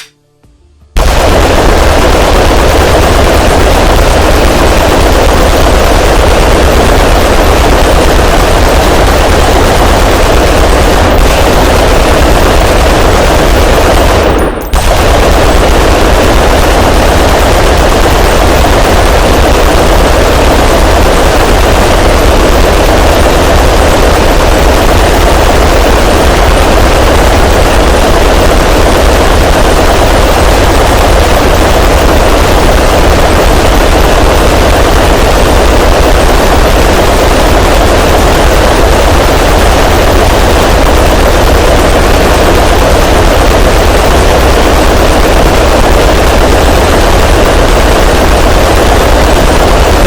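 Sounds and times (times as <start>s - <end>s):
distorted gunfire blast: 0.9s - 50.0s.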